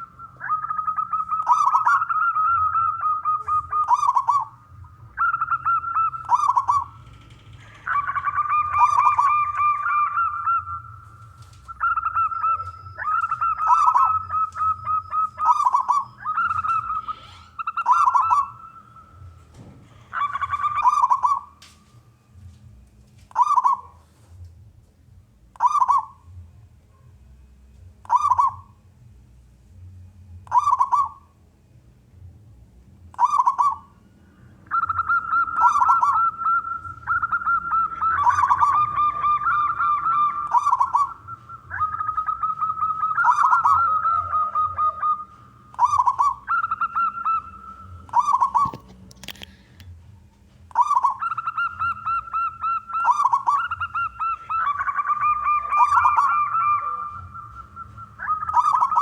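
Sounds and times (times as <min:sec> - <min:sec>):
dove cooing: 0:00.0 - 0:21.8, 0:23.2 - 0:24.4, 0:25.5 - 0:26.4, 0:28.0 - 0:28.8, 0:30.4 - 0:31.4, 0:33.1 - 0:59.0.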